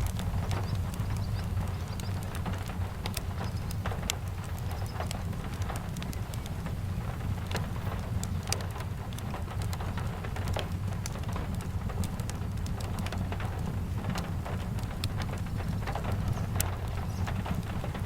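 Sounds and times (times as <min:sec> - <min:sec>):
steady rain: 0:00.0 - 0:18.0
wood fire crackling and popping: 0:00.0 - 0:18.0.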